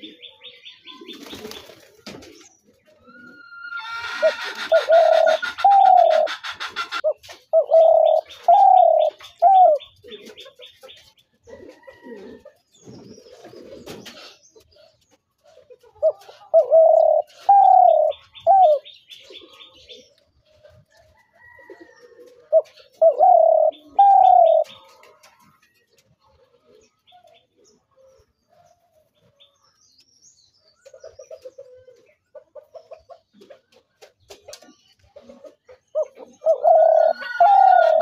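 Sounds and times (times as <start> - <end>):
dove cooing: 0.0 - 28.6, 35.2 - 38.0.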